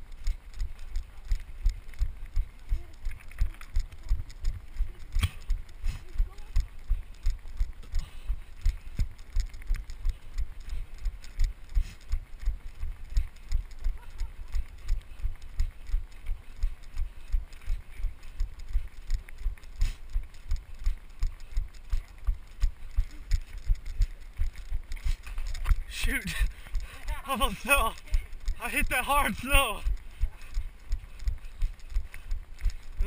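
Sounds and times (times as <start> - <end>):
footsteps on snow: 0.0 - 33.0.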